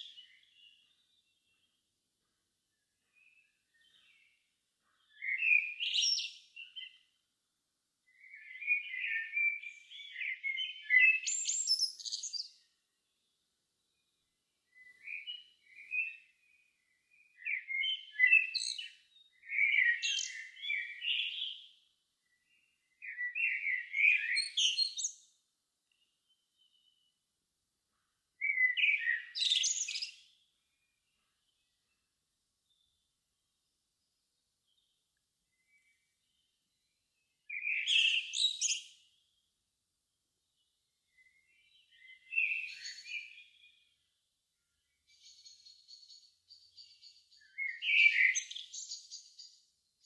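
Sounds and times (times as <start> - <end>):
songbird singing: 0.0 - 7.2, 8.0 - 27.2, 27.9 - 39.5, 40.4 - 50.0.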